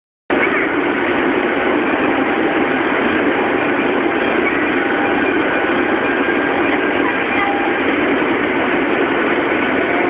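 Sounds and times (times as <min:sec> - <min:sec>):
railway platform ambience: 0:00.3 - 0:10.0.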